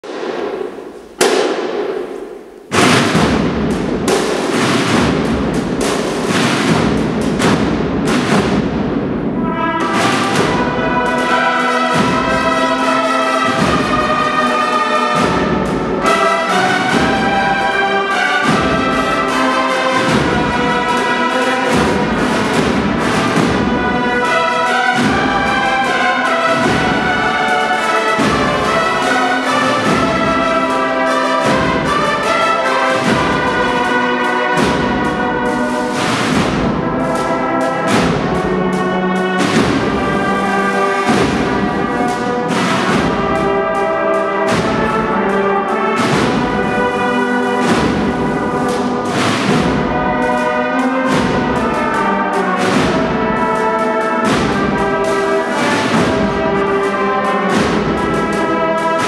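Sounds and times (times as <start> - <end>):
brass playing a march melody: 0.0 - 59.0
percussion beats: 0.0 - 59.0.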